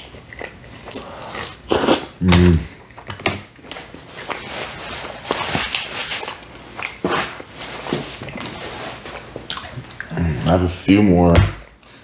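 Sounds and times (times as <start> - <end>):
chewing food: 0.0 - 10.2.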